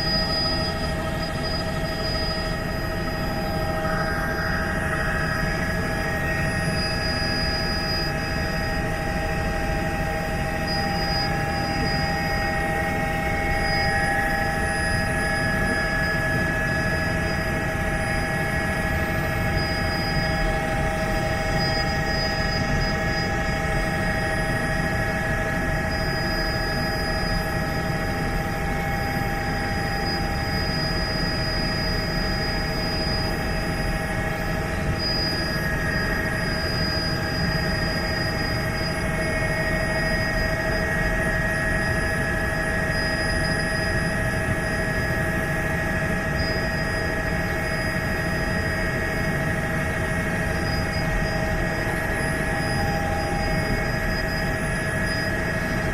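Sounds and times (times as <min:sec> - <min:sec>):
helicopter rotor and engine rumble: 0:00.0 - 0:55.9.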